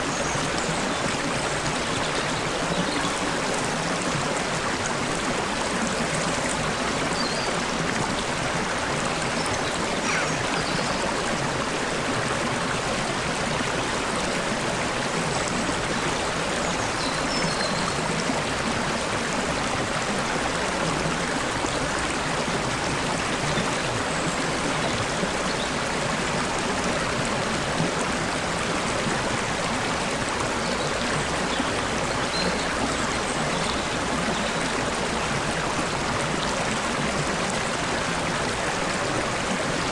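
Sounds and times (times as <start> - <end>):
stream water flowing over stones: 0.0 - 39.9.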